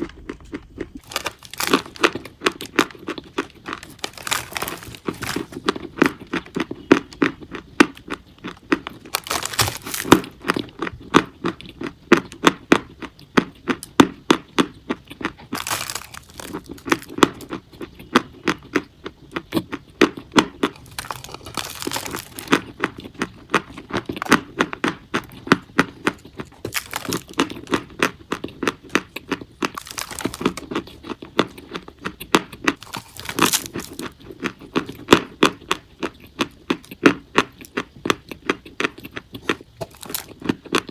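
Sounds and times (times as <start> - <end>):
chalk crunching when chewed: 0.0 - 40.9.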